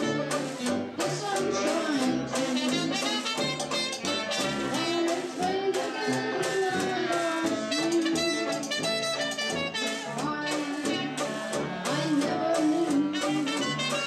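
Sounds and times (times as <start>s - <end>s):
jazz band playing: 0.0s - 14.0s.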